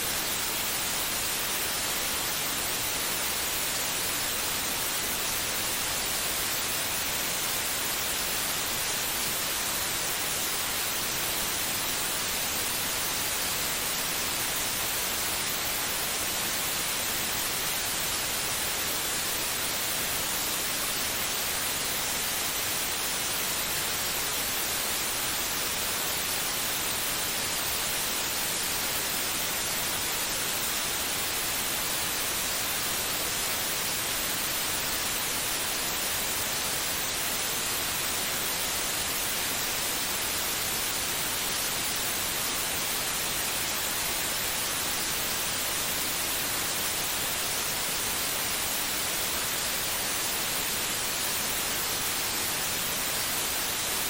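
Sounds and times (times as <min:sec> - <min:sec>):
steady white noise hiss: 0:00.0 - 0:54.0.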